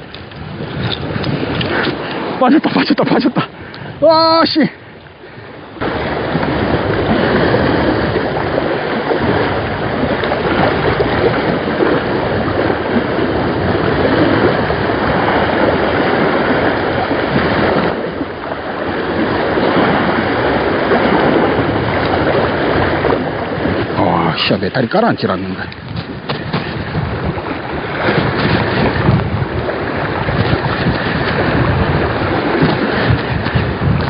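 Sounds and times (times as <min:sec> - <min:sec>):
sea waves washing against rocks: 0:00.0 - 0:34.0
wind on microphone: 0:00.0 - 0:34.0.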